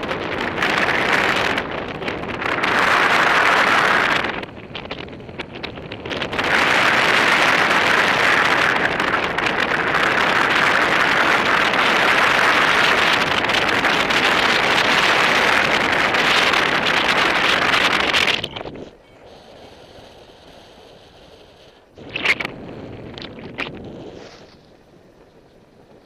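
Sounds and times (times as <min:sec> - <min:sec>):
wind roaring over microphone: 0:00.0 - 0:26.0.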